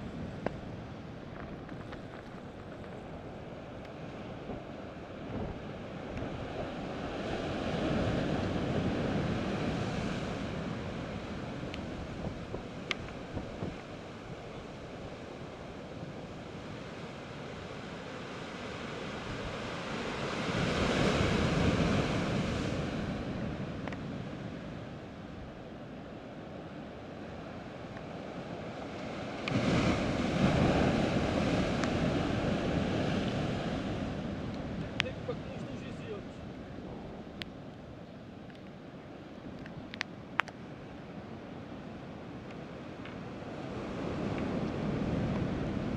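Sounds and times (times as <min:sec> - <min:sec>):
ocean surf on rocky shore: 0:00.0 - 0:45.9
waves crashing: 0:00.0 - 0:45.9.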